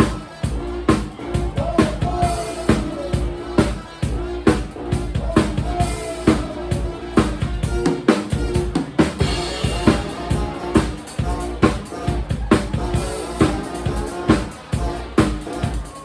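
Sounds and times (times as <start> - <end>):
deep bass: 0.0 - 15.9
drum kit beat: 0.0 - 16.0
held pitched notes: 0.0 - 16.0.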